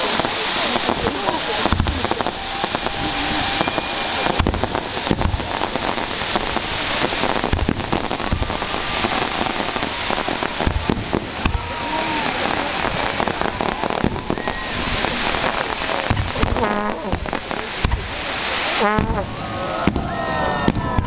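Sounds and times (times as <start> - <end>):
fireworks booms: 0.0 - 21.0
fireworks crackling: 0.0 - 21.0.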